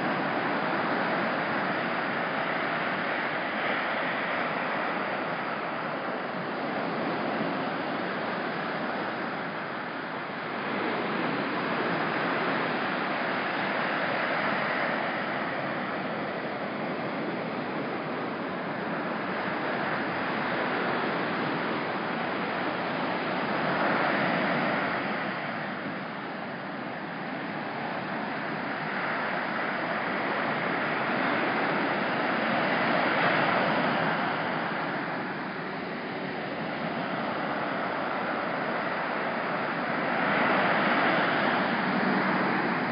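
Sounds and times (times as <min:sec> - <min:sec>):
ocean surf breaking: 0:00.0 - 0:42.9.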